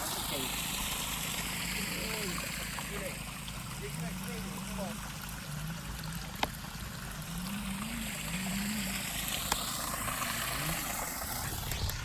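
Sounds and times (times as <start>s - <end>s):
hiss of water: 0.0s - 12.0s.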